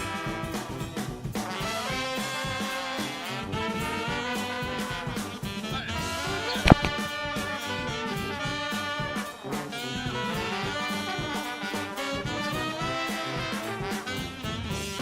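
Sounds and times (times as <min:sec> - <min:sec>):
upbeat jazz with brass: 0:00.0 - 0:15.0.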